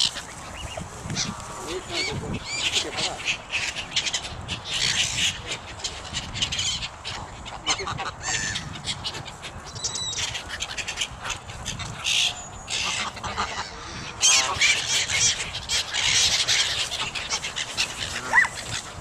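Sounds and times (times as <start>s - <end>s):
geese honking: 0.0s - 19.0s
gulls calling: 0.0s - 19.0s.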